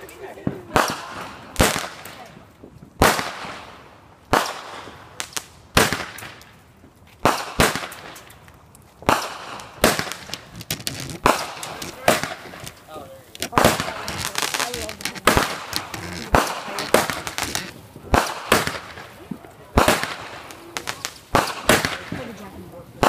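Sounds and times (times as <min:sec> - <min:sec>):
fireworks crackling: 0:00.0 - 0:23.0
fireworks bangs with echo: 0:00.3 - 0:06.6, 0:07.2 - 0:08.4, 0:09.0 - 0:22.5.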